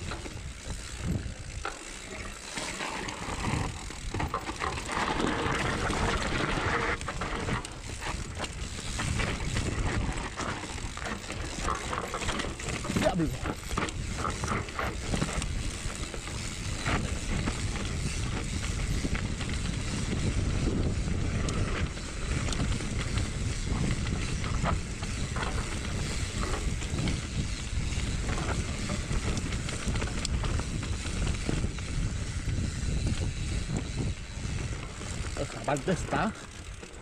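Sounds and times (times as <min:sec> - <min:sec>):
wind buffeting microphone: 0:00.0 - 0:02.0, 0:02.9 - 0:37.0
bicycle rattling over rough ground: 0:00.0 - 0:37.0.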